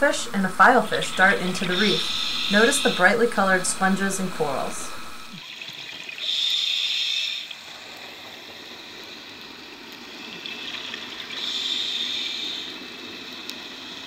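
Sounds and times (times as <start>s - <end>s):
underwater bubbling: 0.0s - 14.0s
hissing regulator breaths: 0.6s - 5.4s, 6.1s - 14.0s.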